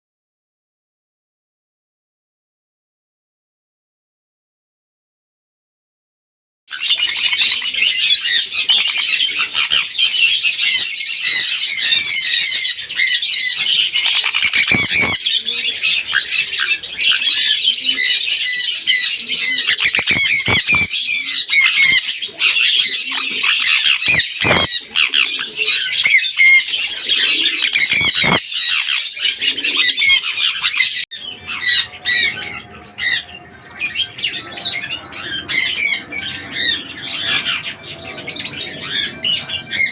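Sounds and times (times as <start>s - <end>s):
parrot squawking and screeching: 6.7s - 39.9s.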